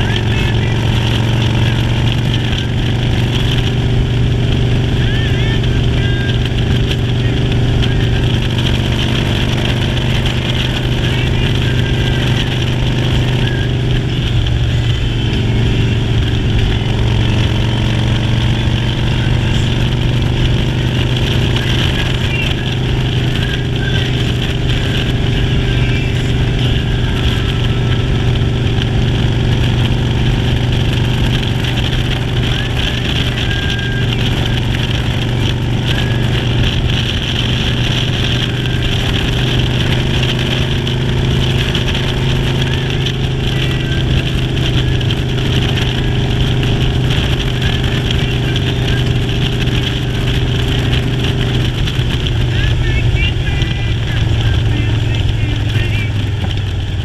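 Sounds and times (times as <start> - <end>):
continuous rush of noise: 0.0 - 57.0
motorcycle engine running: 0.0 - 57.0.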